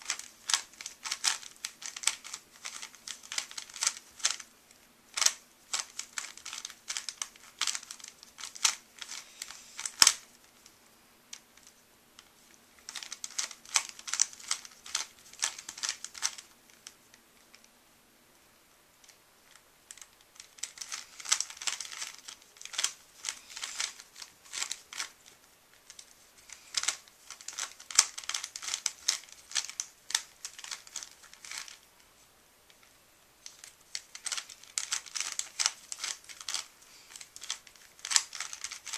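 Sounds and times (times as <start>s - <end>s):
puzzle cube plastic clicking: 0.0s - 4.5s, 5.1s - 10.7s, 11.3s - 17.6s, 19.0s - 31.9s, 33.4s - 38.9s.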